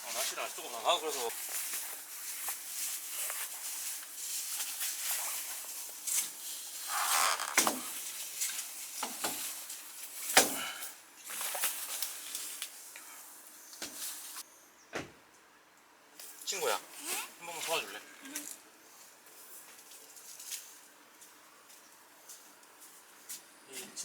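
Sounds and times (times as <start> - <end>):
rustling and handling noises: 0.0 - 14.5, 16.2 - 23.9.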